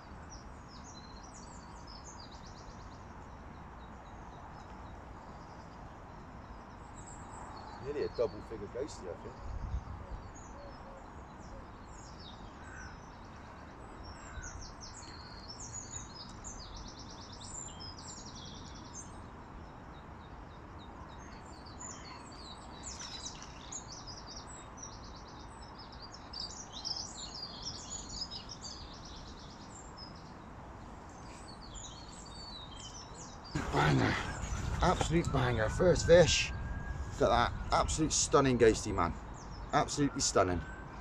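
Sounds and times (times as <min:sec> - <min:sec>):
outdoor background rush: 0:00.0 - 0:41.0
small birds chirping and trilling: 0:00.0 - 0:41.0.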